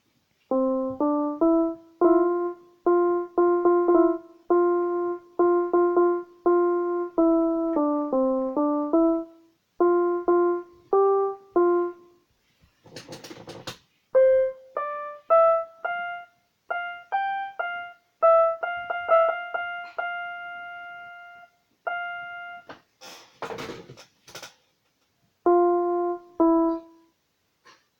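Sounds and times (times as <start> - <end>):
keyboard notes: 0.0 - 12.2, 14.2 - 22.7, 25.4 - 27.1.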